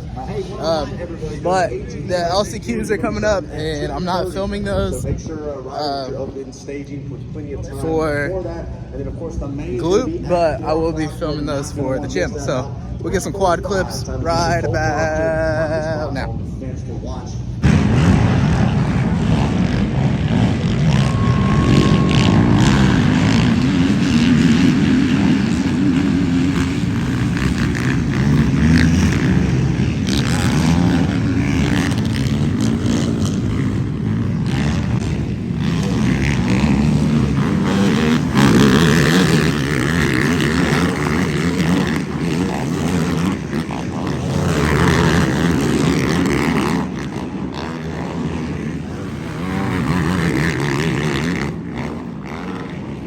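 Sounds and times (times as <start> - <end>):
quad engines revving: 7.2 - 53.0.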